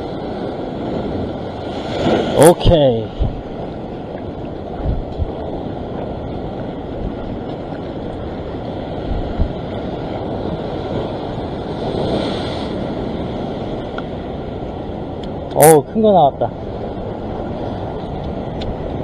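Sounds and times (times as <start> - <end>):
ocean surf over rocks: 0.0 - 19.0
wind buffeting microphone: 0.0 - 19.0.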